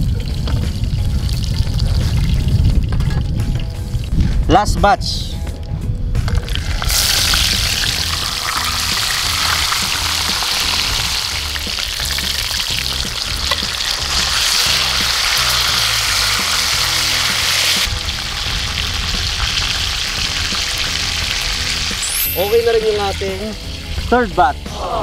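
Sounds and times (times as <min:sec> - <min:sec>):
fish deep-frying in hot oil: 0:00.0 - 0:04.1, 0:06.4 - 0:24.0.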